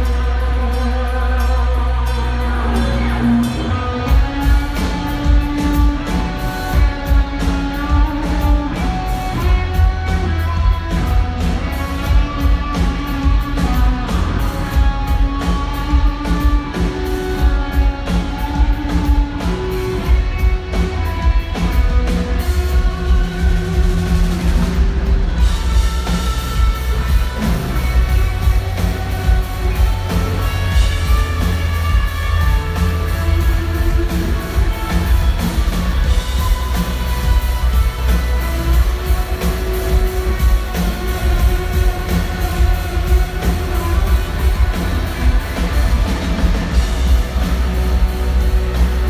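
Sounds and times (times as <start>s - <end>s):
bass guitar: 0.0s - 49.0s
electric guitar melody: 0.0s - 49.0s
drum kit beat: 2.3s - 49.0s.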